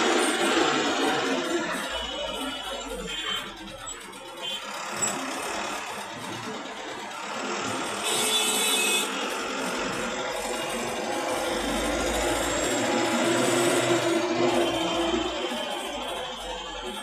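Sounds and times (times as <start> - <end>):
dense road traffic: 0.0 - 17.0.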